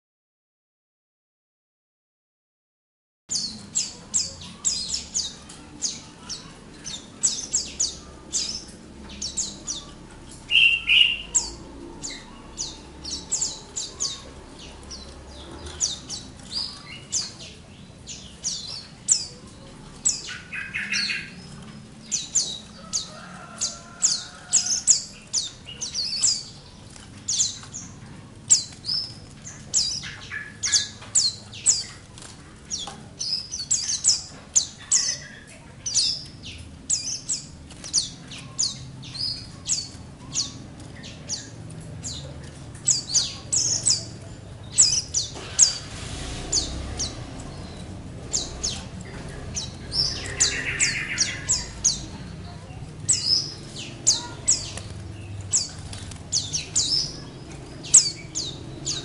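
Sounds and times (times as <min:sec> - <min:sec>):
birds chirping: 0:03.3 - 0:59.0.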